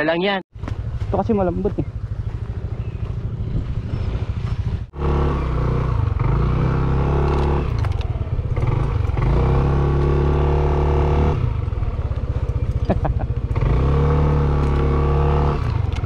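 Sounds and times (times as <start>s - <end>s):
motorcycle engine revving: 0.6s - 16.0s.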